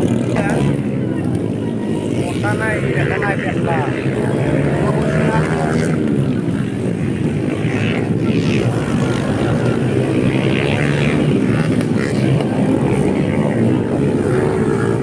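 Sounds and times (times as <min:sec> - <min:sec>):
dirt bike engines running: 0:00.0 - 0:15.0.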